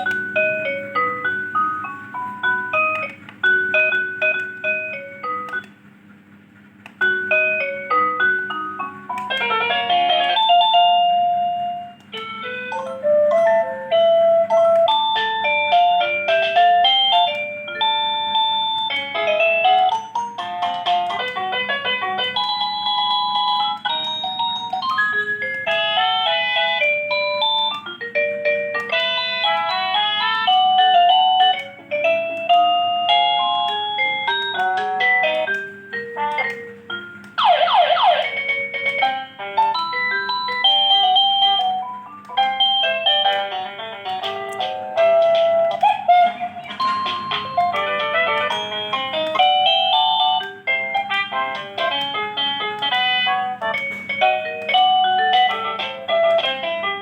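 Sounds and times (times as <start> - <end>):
electronic doorbell chime tunes: 0.0 - 5.7, 7.0 - 38.8, 39.5 - 44.4, 46.6 - 51.4, 53.6 - 56.5.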